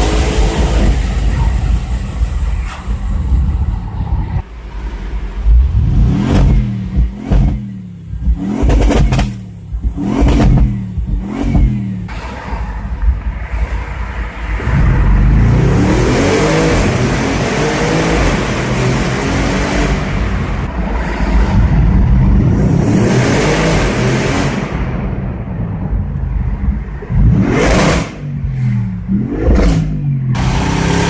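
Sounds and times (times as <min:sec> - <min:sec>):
car engine revving: 0:00.0 - 0:31.0
exhaust crackles: 0:00.0 - 0:31.0.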